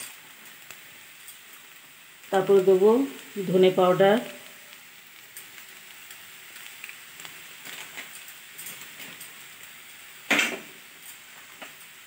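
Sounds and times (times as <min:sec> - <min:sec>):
food frying with crackles: 0:00.0 - 0:12.0.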